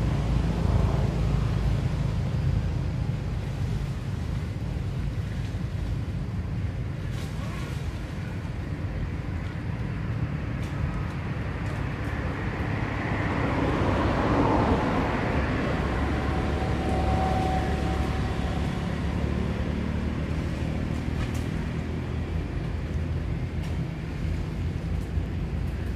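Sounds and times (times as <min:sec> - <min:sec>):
engine humming: 0:00.0 - 0:25.9.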